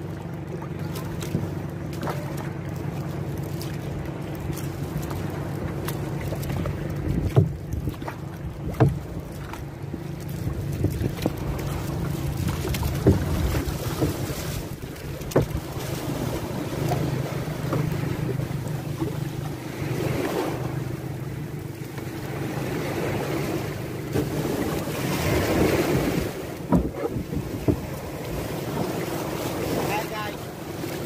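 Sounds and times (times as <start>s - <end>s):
water slapping against boat: 0.0s - 31.0s
sharp knocks on boat: 0.5s - 2.5s, 3.4s - 22.6s, 23.5s - 31.0s
wind buffeting microphone: 4.0s - 30.3s.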